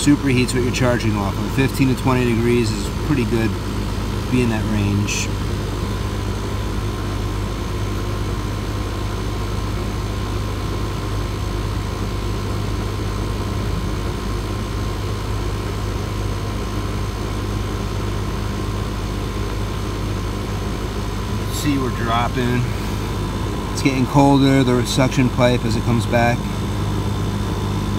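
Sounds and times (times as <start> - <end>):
compressor low hum: 0.0 - 27.9
condenser fan noise: 0.0 - 27.9.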